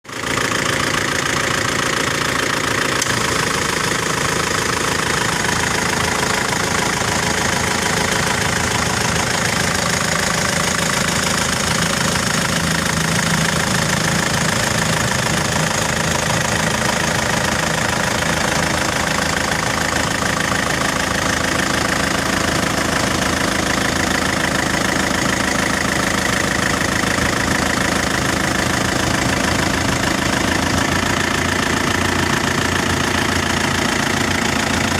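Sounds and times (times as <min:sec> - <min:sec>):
turbo engine running: 0:00.1 - 0:34.9.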